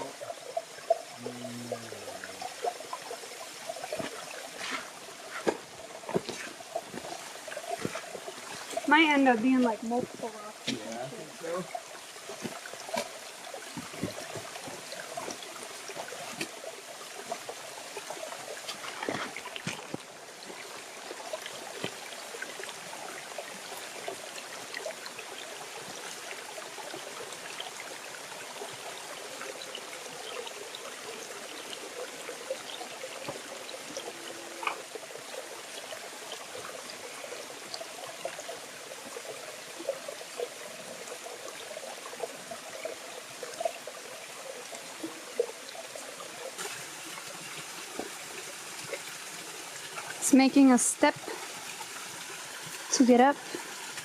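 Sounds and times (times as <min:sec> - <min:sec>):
water trickling and splashing: 0:00.0 - 0:54.0
small clicks and splashes: 0:02.2 - 0:54.0.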